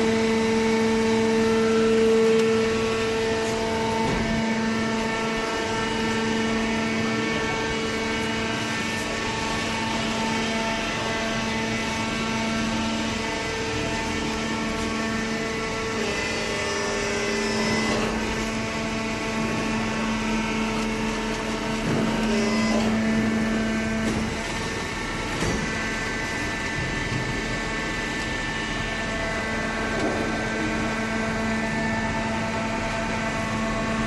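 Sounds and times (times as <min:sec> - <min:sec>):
electric motor and pump humming: 0:00.0 - 0:34.0.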